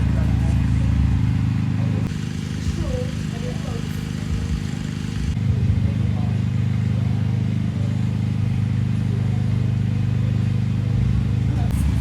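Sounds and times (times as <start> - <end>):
motor engine droning: 0.0 - 12.0.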